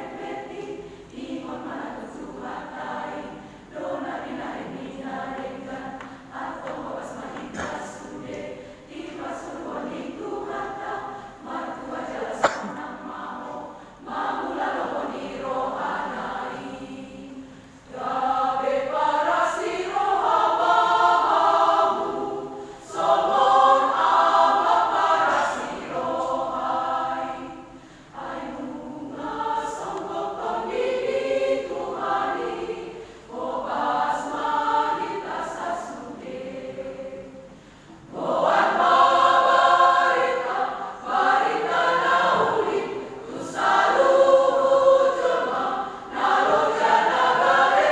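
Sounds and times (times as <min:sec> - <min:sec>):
choir singing: 0:00.0 - 0:47.9.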